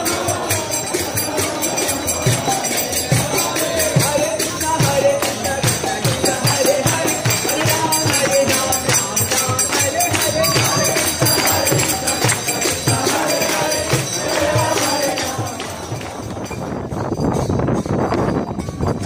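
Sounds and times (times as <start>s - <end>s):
drum steady beat: 0.0s - 16.2s
group chanting: 0.0s - 16.4s
hand cymbals ringing: 0.0s - 19.0s.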